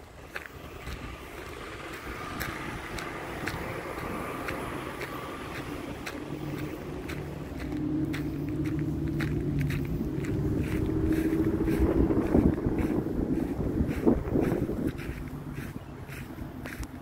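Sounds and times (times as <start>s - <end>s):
deep engine hum: 0.0s - 17.0s
mill machinery rumble: 0.0s - 17.0s.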